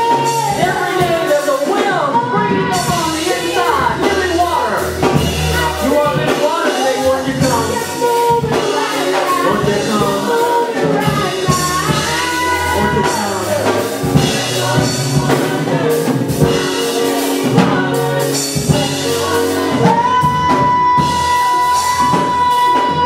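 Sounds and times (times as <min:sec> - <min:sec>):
worship singing over a band: 0:00.0 - 0:23.0.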